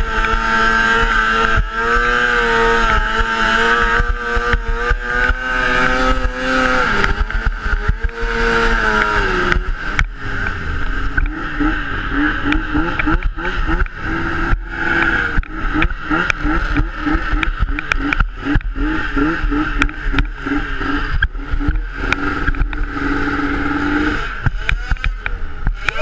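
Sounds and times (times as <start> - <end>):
snowmobile engine at low revs: 0.0 - 26.0.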